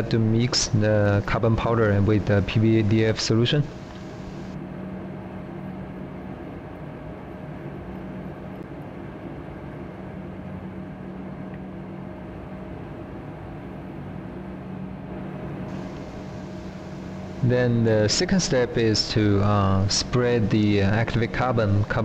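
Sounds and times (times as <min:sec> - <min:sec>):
steady ventilation hum: 0:00.0 - 0:22.0.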